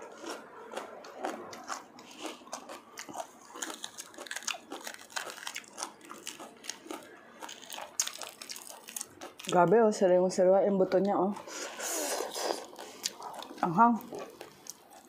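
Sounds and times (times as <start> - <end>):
crunchy chewing of pepper: 0.0 - 9.7, 11.0 - 15.0.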